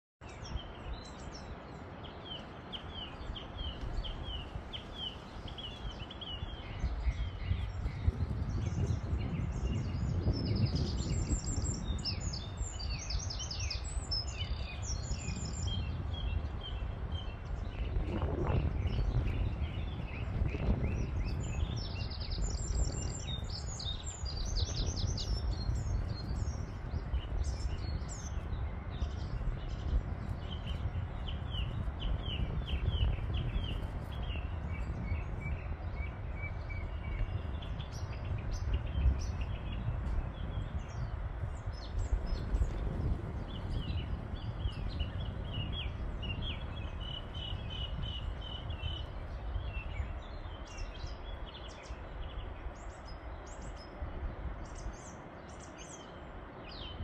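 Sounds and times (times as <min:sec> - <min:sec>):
songbirds chirping and trilling: 0:00.2 - 0:57.0.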